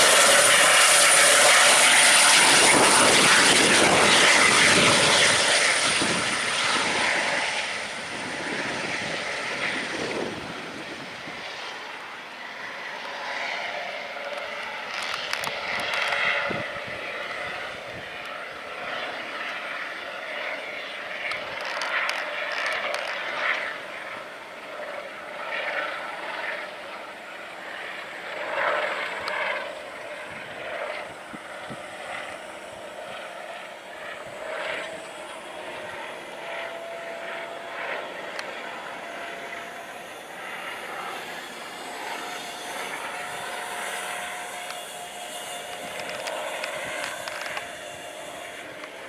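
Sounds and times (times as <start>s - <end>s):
helicopter rotors rushing: 0.0s - 49.0s
steady turbine whine: 0.0s - 49.0s.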